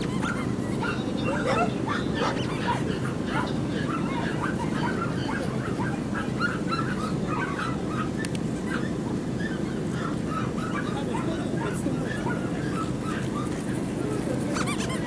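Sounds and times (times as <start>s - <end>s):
dogs yapping and barking: 0.0s - 15.0s.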